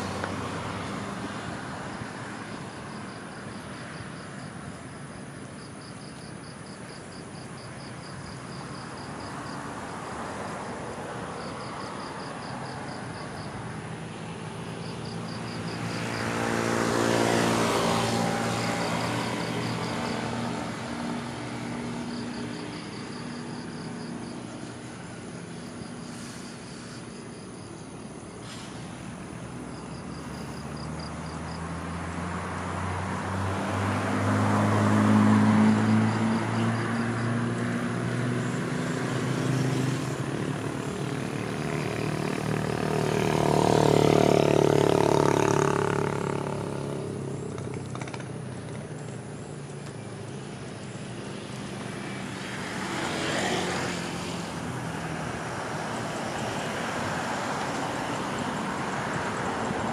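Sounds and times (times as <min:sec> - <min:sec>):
traffic hum: 0:00.0 - 0:59.9
motor vehicle passing: 0:09.2 - 0:27.4, 0:28.5 - 0:59.9.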